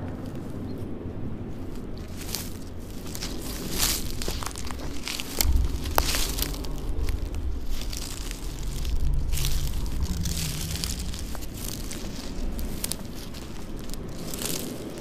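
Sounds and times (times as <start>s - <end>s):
low rumble: 0.0s - 15.0s
footsteps crunching dry leaves: 1.4s - 15.0s
twigs crackling and snapping: 1.4s - 15.0s.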